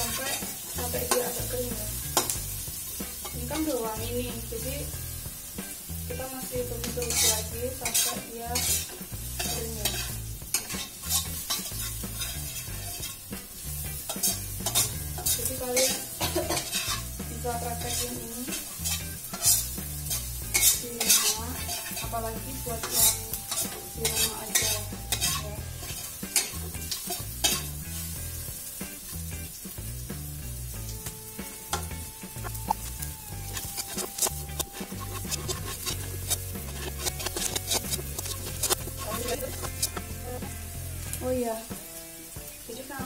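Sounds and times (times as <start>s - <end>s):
metal spatula scraping a wok: 0.0s - 4.9s, 6.4s - 29.2s, 31.6s - 40.6s
food sizzling in oil: 0.0s - 43.0s.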